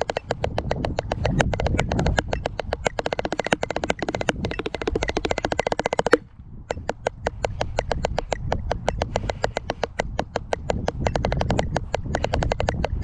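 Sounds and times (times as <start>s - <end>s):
drumsticks tapping practice pad: 0.0s - 13.0s.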